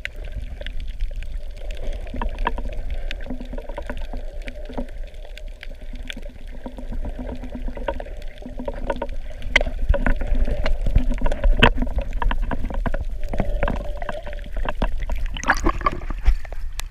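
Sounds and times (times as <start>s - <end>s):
muffled underwater rumble: 0.0s - 16.9s
sharp underwater clicks: 0.0s - 16.9s.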